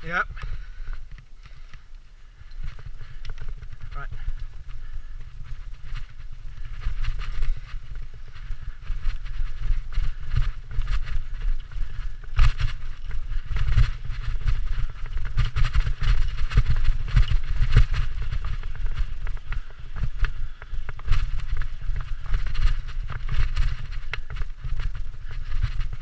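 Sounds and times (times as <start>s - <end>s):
bike rattling over bumps: 0.0s - 26.0s
tyres on leafy dirt: 0.0s - 26.0s
wind rumble on camera: 0.0s - 26.0s.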